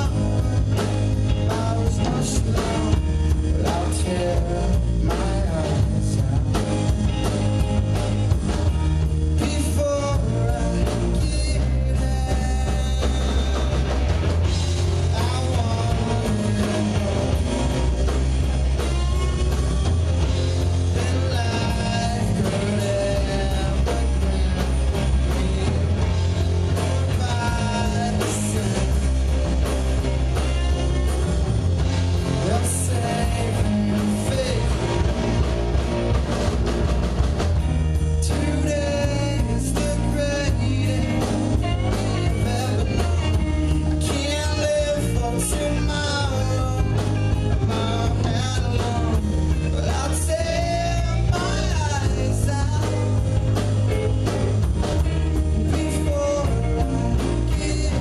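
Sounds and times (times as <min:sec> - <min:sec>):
person singing: 0:00.0 - 0:07.4, 0:09.3 - 0:14.1, 0:14.8 - 0:18.2, 0:18.8 - 0:26.2, 0:26.9 - 0:29.4, 0:32.2 - 0:35.4, 0:37.9 - 0:53.6, 0:55.0 - 0:58.0
bass guitar: 0:00.0 - 0:58.0
drums: 0:00.0 - 0:58.0
electric guitar: 0:00.0 - 0:58.0.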